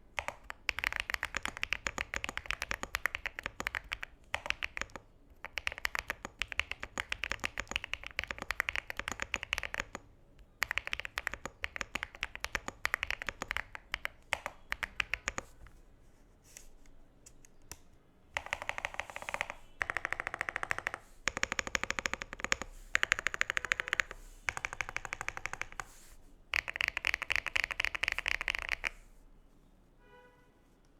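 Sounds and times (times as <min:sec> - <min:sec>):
mechanical keyboard typing: 0:00.2 - 0:15.6, 0:18.4 - 0:25.9, 0:26.5 - 0:29.0.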